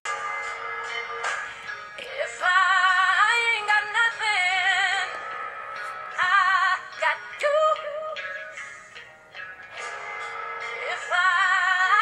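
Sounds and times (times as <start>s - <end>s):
recorded song: 0.1s - 12.0s.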